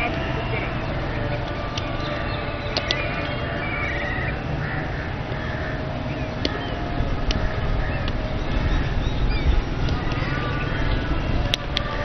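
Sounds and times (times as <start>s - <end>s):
birds chirping: 0.0s - 12.0s
steady low rumble: 0.0s - 12.0s
warbling bird call: 0.0s - 12.0s.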